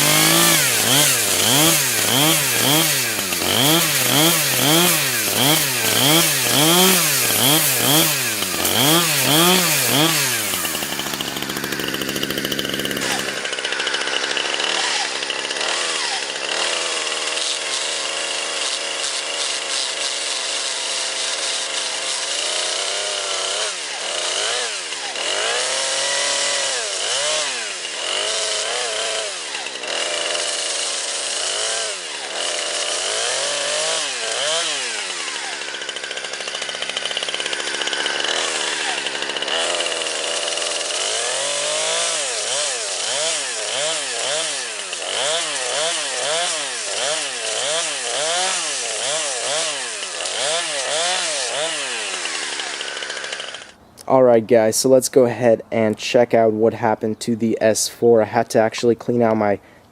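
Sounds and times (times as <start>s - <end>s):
chainsaw cutting and revving: 0.0s - 59.9s.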